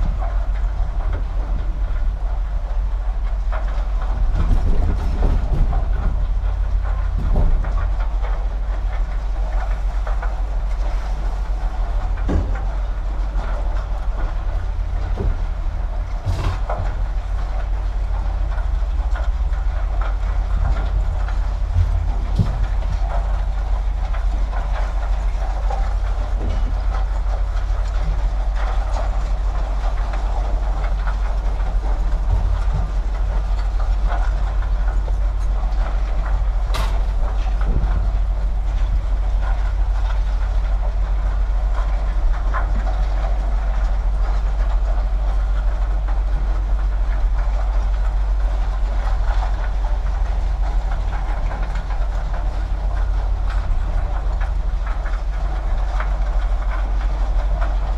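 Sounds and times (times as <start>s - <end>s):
engine idling: 0.0s - 57.9s.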